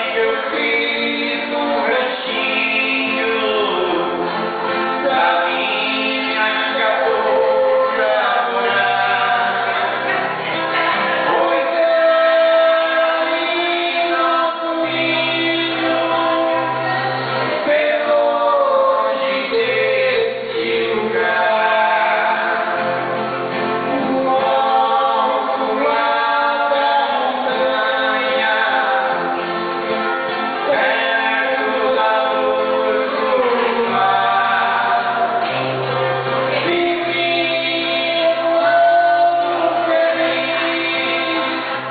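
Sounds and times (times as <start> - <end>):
men singing in harmony: 0.0 - 41.9
strummed acoustic guitars: 0.0 - 41.9.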